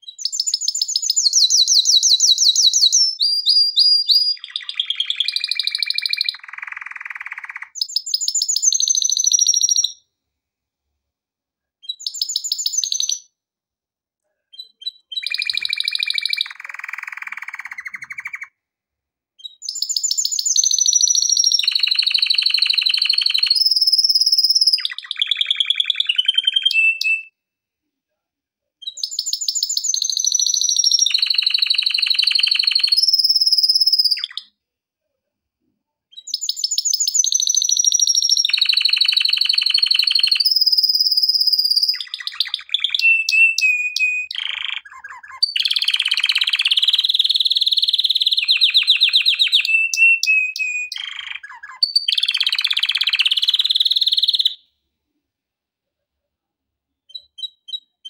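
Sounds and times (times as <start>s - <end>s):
canary singing trills: 0.0s - 10.0s, 11.8s - 13.3s, 14.5s - 18.6s, 19.4s - 27.3s, 28.8s - 34.5s, 36.1s - 54.7s, 57.1s - 58.0s.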